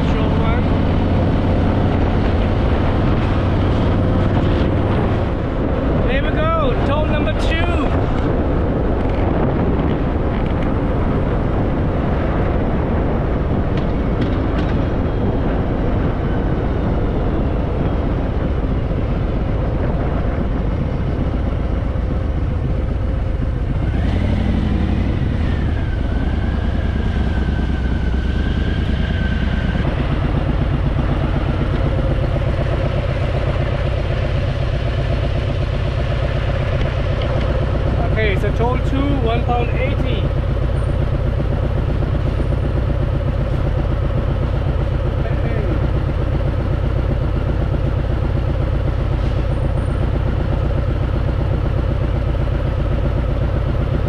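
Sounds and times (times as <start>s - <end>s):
motorcycle engine rumbling: 0.0s - 54.0s
wind and road noise: 0.0s - 54.0s.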